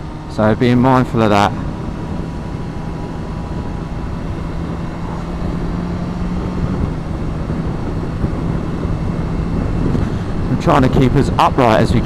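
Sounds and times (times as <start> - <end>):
motorcycle engine running: 0.0 - 12.0
wind noise on microphone: 1.5 - 12.0.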